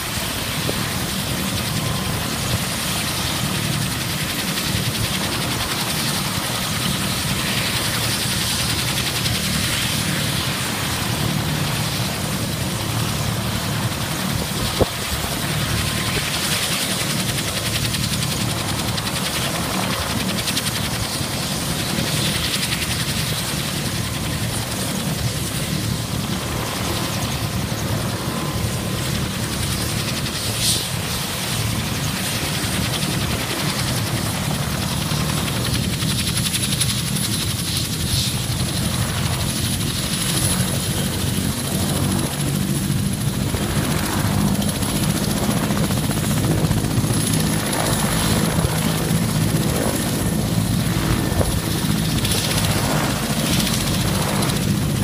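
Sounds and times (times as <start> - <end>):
helicopter rotor beat: 0.0 - 55.0
high turbine whine: 0.0 - 55.0.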